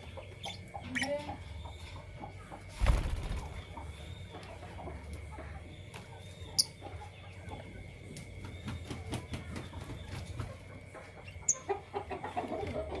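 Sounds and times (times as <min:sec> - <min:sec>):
lovebirds chattering: 0:00.0 - 0:12.9.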